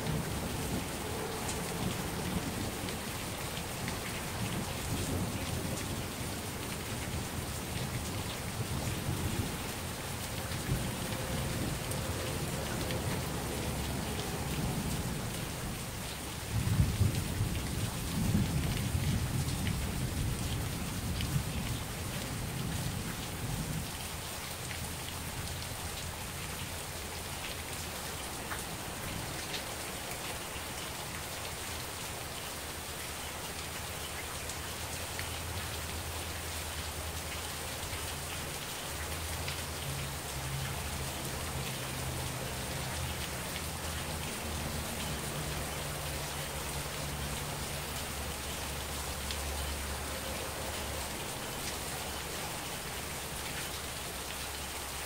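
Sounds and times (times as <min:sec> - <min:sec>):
heavy rain: 0:00.0 - 0:55.0
raindrops ticking on surfaces: 0:00.0 - 0:55.0.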